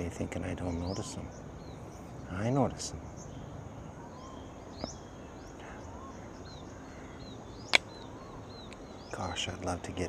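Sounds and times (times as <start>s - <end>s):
birds chirping: 0.0s - 10.0s
outdoor background noise: 0.0s - 10.0s.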